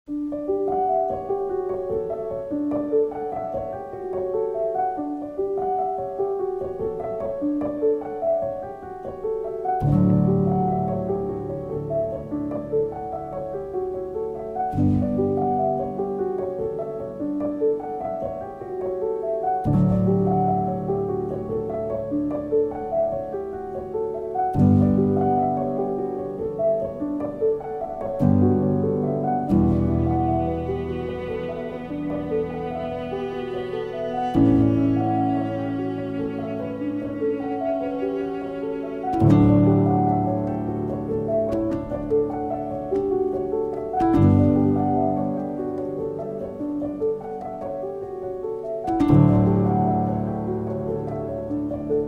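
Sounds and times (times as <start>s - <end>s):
slow piano melody: 0.1s - 52.0s.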